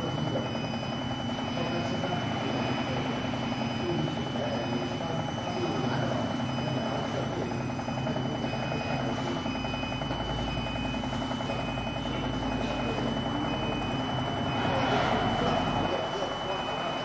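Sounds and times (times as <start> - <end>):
high-pitched whine: 0.0 - 17.0
lathe spindle running: 0.0 - 17.0.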